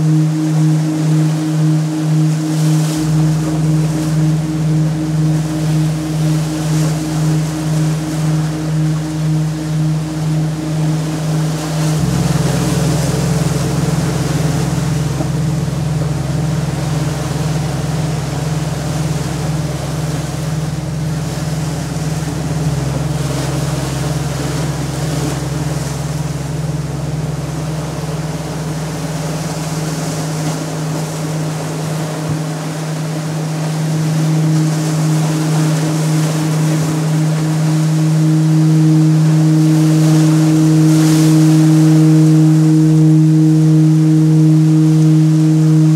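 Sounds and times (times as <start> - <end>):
higher sustained tone: 0.0 - 45.9
low sustained drone: 0.0 - 45.9.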